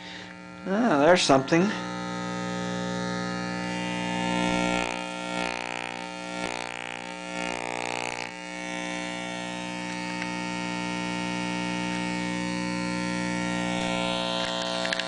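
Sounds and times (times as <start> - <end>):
distorted mains hum and buzz: 0.0 - 15.0.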